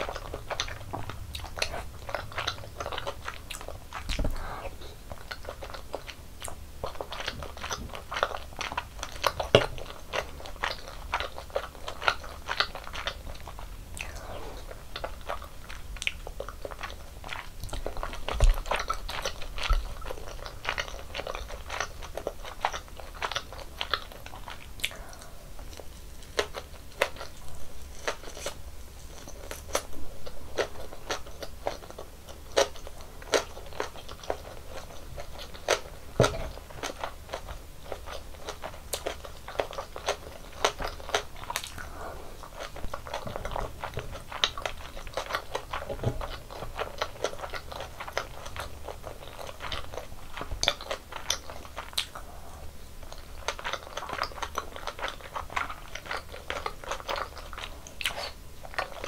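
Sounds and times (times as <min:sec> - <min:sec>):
person chewing and crunching: 0:00.0 - 0:59.0.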